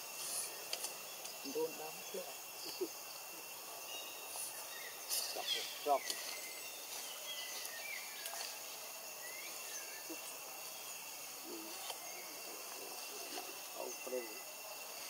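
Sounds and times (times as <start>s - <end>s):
insects droning: 0.0s - 15.0s
bird chirps: 0.2s - 14.4s.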